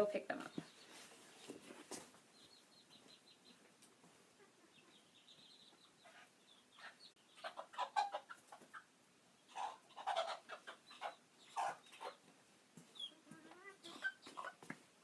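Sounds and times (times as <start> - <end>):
chickens clucking and squawking: 0.4 - 15.0.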